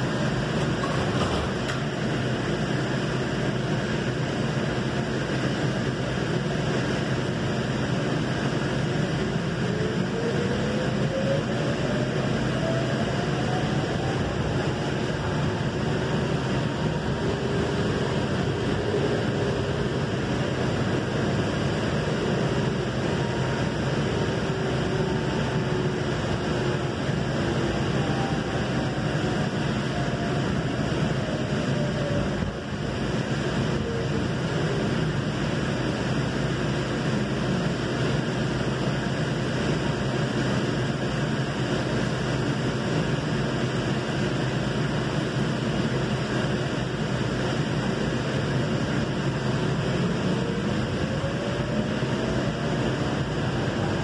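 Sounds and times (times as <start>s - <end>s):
train running gear rumble: 0.0s - 54.0s.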